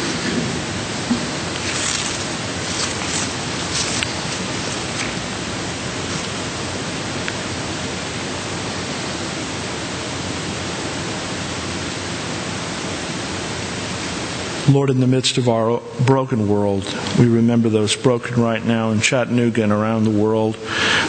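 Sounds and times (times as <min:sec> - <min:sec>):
room tone hiss: 0:00.0 - 0:21.0.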